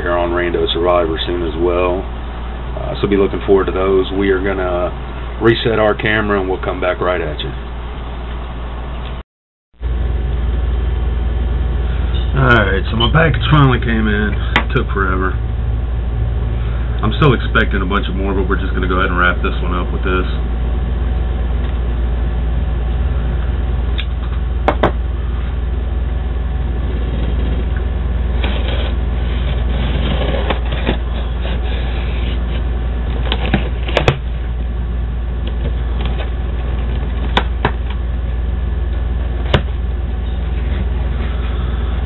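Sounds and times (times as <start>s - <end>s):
low hum: 0.0s - 9.2s, 9.8s - 42.0s.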